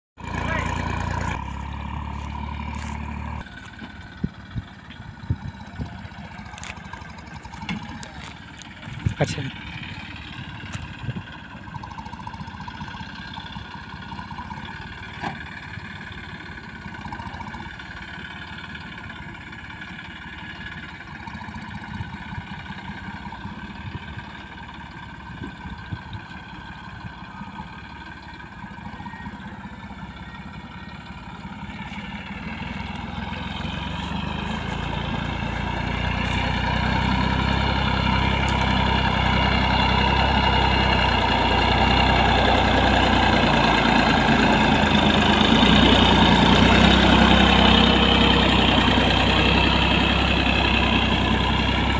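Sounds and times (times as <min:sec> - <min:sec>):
tractor diesel engine under load: 0:00.1 - 0:51.9.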